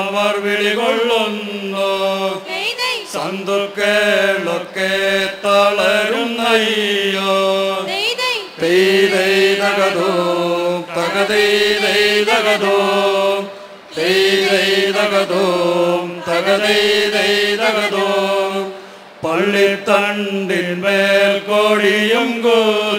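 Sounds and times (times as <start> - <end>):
group singing in unison: 0.0 - 22.9.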